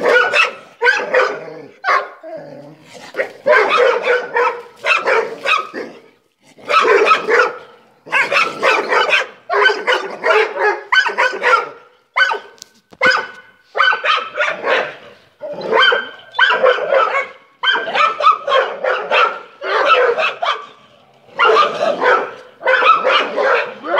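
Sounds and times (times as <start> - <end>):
dogs barking: 0.0 - 2.2, 3.1 - 23.9.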